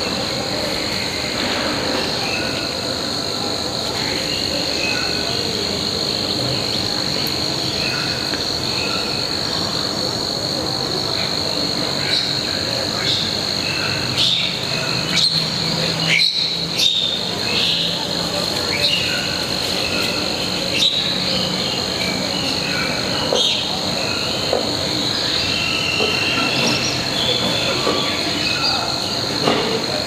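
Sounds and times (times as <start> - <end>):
insect drone: 0.0 - 30.0.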